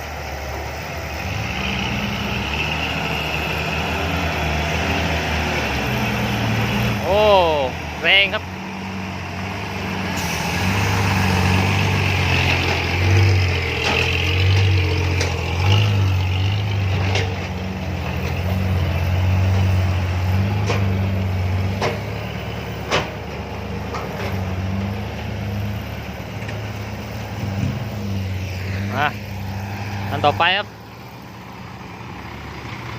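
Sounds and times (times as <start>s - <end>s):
diesel truck engine labouring: 0.0s - 32.9s.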